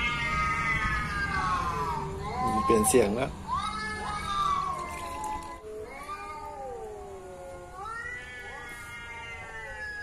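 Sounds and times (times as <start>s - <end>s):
cats yowling from phone speaker: 0.0s - 10.0s.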